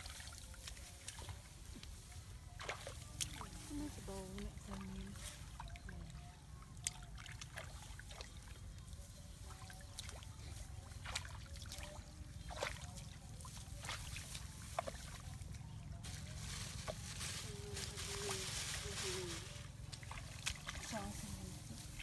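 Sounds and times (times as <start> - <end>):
muddy water sloshing and splashing: 0.0 - 22.0.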